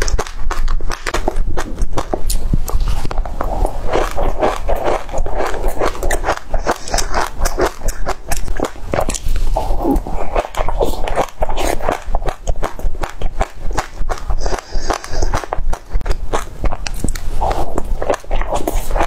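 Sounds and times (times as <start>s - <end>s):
mouth clicks: 0.0s - 19.0s
wet chewing and lip-smacking: 0.0s - 19.0s.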